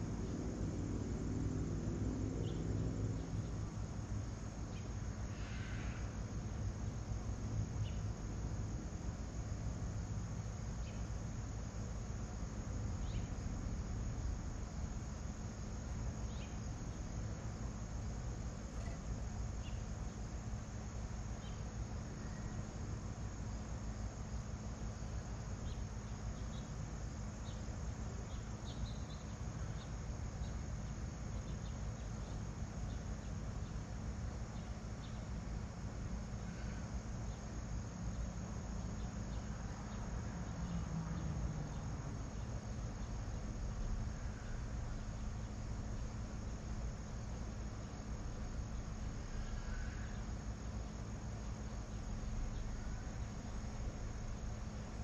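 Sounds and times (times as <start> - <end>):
crickets trilling: 0.0 - 55.0
low background rumble: 0.0 - 55.0.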